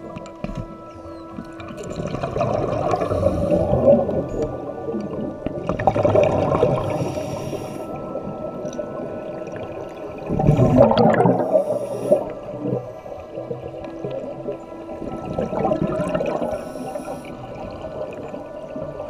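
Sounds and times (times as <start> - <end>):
underwater air bubbling: 0.0 - 19.0.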